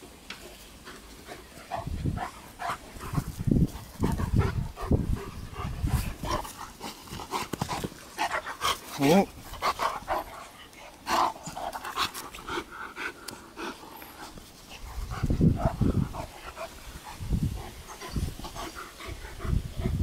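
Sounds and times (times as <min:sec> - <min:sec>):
dogs play-growling and barking: 0:00.5 - 0:20.0.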